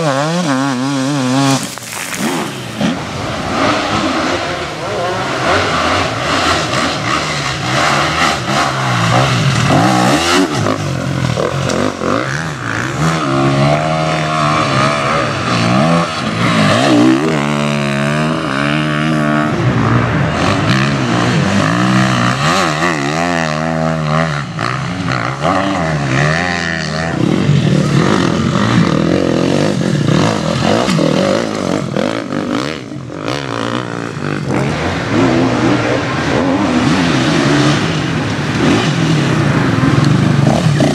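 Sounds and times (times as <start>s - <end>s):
motorcycles revving: 0.0s - 40.9s.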